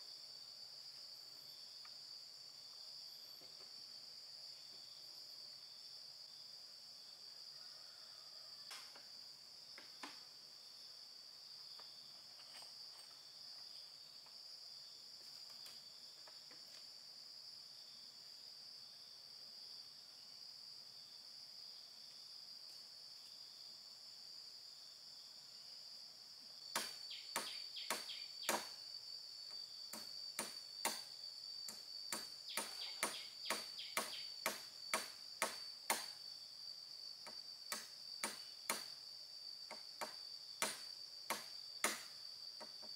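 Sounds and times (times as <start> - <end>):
insect chirring: 0.0 - 42.9.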